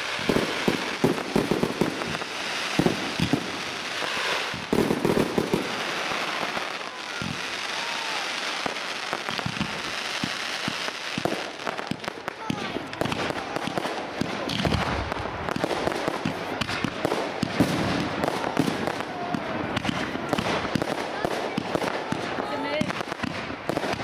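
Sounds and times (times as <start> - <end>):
firework crackle: 0.0 - 24.0.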